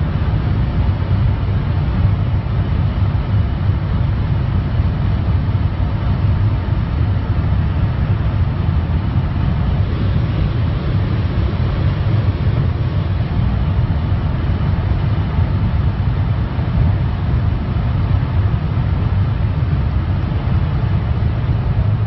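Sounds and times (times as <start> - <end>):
car cabin road and engine rumble: 0.0 - 22.0.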